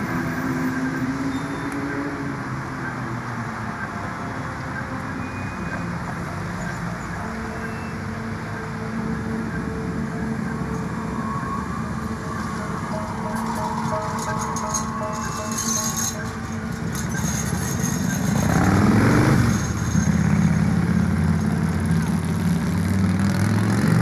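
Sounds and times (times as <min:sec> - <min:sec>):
low rumble of city traffic: 0:00.0 - 0:24.0.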